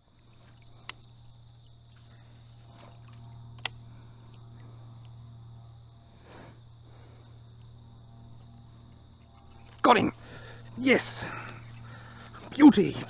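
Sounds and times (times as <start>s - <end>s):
high insect drone: 0.0s - 13.0s
low even hum: 0.0s - 13.0s.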